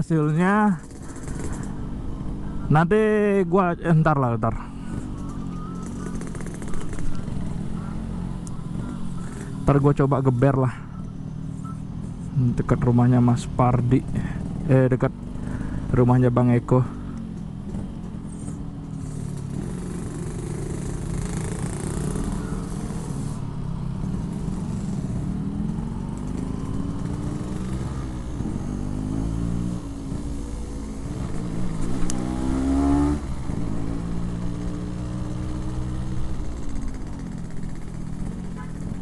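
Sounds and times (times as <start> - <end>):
two-stroke motorcycle engine revving: 0.0 - 39.0.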